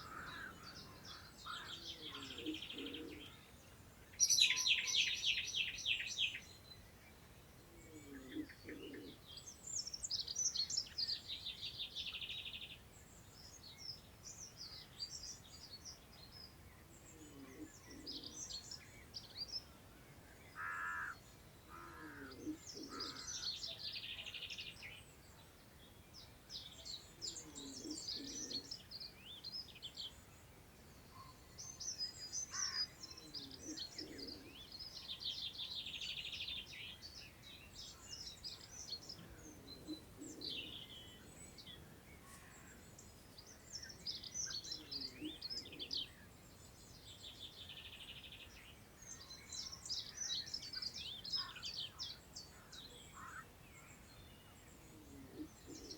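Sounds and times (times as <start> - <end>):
songbirds singing and trilling: 0.0 - 55.9.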